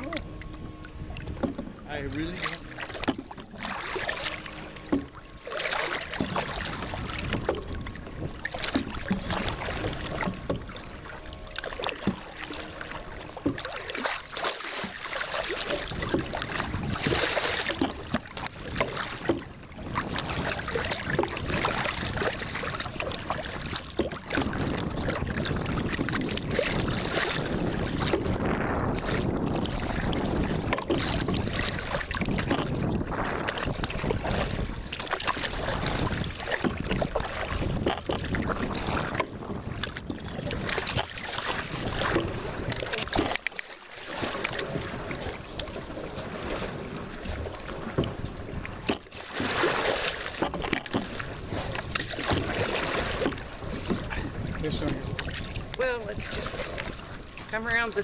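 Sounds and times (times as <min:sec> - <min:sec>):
wind on microphone: 0:00.0 - 0:14.1, 0:15.3 - 0:43.4, 0:44.1 - 0:58.0
water splashing around boat: 0:00.0 - 0:58.0.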